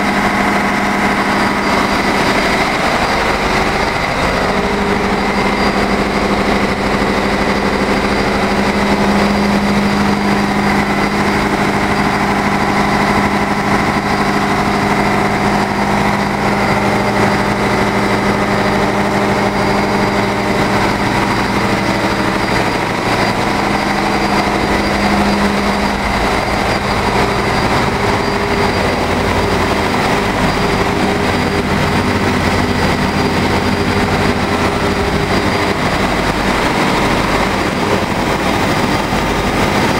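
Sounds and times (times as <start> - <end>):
engine room machinery drone: 0.0 - 39.9
high machinery whine: 0.0 - 39.9.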